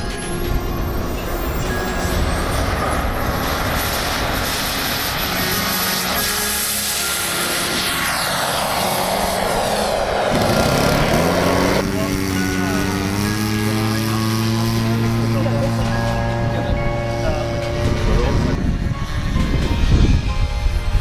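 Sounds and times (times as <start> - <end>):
model jet engine whine: 0.0 - 21.0
steady engine note: 0.0 - 21.0.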